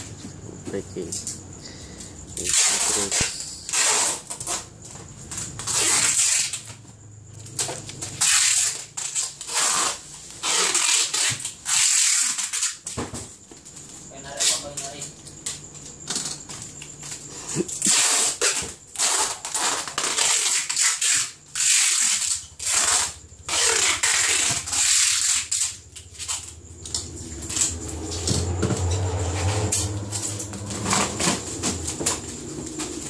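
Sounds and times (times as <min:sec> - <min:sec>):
boxes scraping and rustling: 0:02.2 - 0:06.8, 0:07.4 - 0:14.6, 0:15.6 - 0:33.0.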